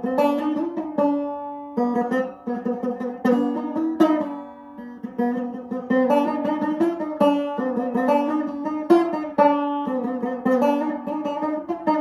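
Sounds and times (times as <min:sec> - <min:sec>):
banjo playing slowly: 0:00.0 - 0:12.0.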